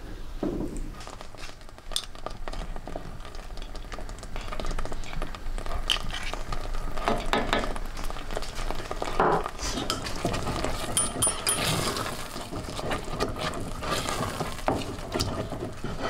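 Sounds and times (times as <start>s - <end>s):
sauce sizzling in a saucepan: 1.0s - 16.0s
spoon stirring clicks and scrapes: 1.1s - 16.0s.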